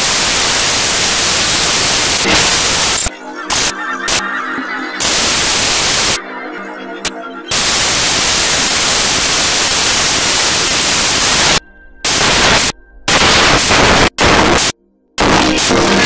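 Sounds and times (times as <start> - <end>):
loud static hiss: 0.0 - 4.2, 5.0 - 6.2, 7.5 - 16.0.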